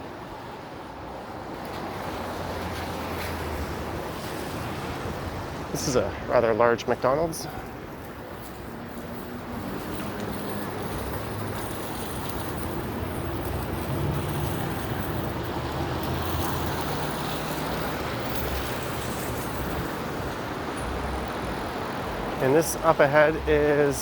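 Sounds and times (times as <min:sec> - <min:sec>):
cars passing: 0:00.0 - 0:24.0
tyre noise on wet pavement: 0:00.2 - 0:24.0.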